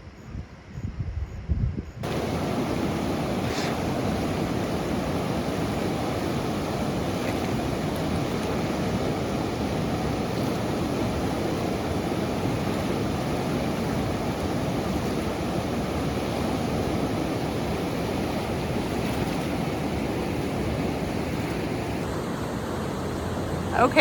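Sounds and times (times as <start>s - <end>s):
river water pouring over rocks: 2.0s - 24.0s.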